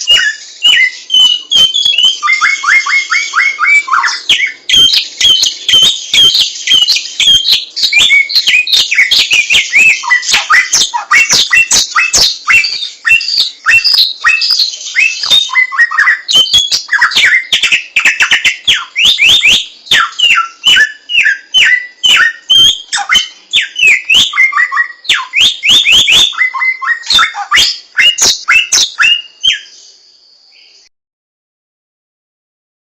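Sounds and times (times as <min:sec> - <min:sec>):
songbird whistling rapidly: 0:00.0 - 0:30.0.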